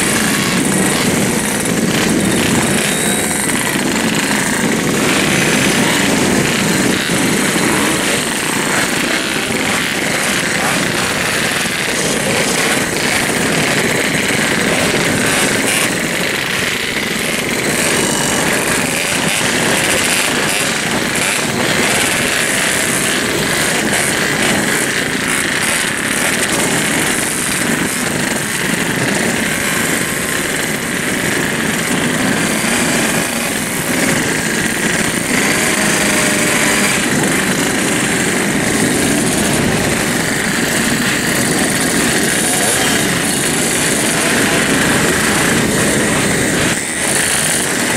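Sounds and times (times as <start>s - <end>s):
motorcycle engines revving: 0.0s - 47.9s.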